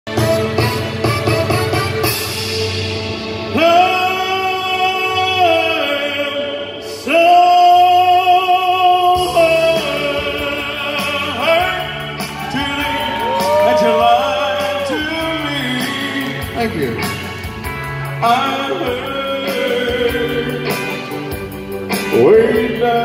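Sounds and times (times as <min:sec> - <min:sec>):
backing track through pa system: 0:00.1 - 0:23.0
man singing: 0:03.5 - 0:17.3, 0:17.9 - 0:23.0.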